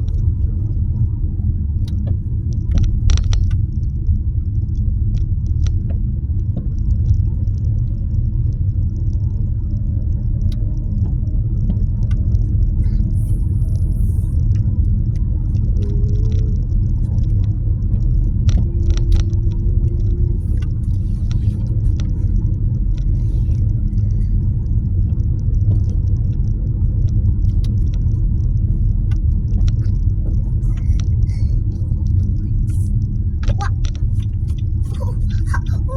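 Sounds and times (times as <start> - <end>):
car engine running: 0.0 - 35.9
faint ticks: 1.8 - 35.3.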